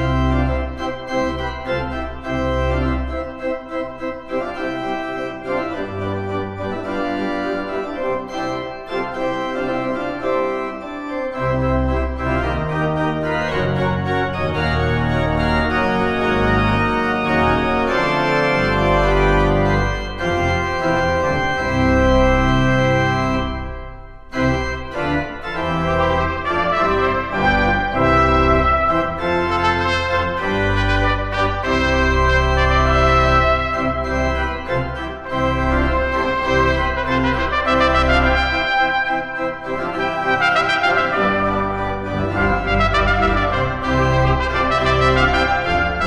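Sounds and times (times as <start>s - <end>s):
church organ chords: 0.0s - 46.0s.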